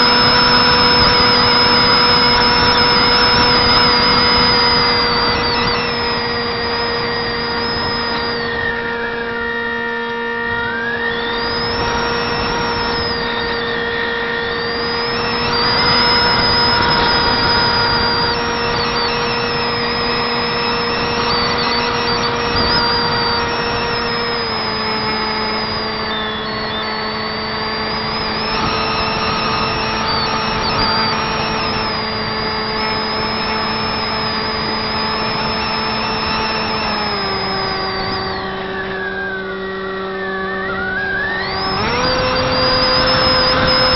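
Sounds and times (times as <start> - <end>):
propeller drone with electric whine: 0.0 - 43.9.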